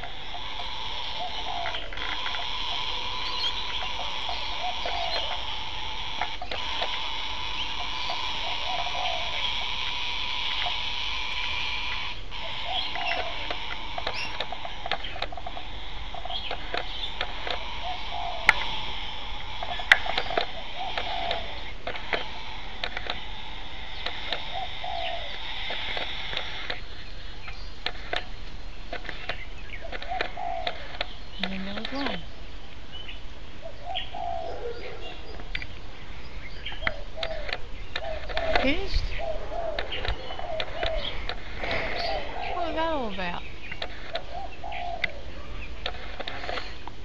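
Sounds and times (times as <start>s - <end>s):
cockatoo raspy call: 0.0s - 32.4s, 33.1s - 47.0s
sharp clicks: 0.0s - 32.8s, 35.3s - 35.9s, 36.6s - 47.0s.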